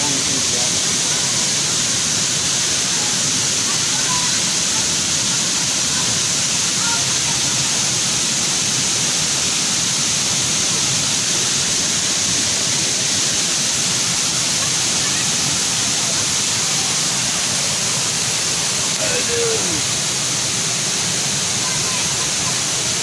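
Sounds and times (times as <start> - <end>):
waterfall pouring: 0.0 - 23.0.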